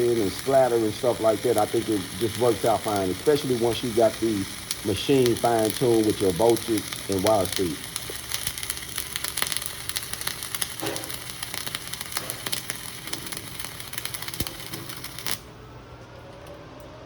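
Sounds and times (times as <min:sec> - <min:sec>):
welding arc crackling: 0:00.0 - 0:15.6.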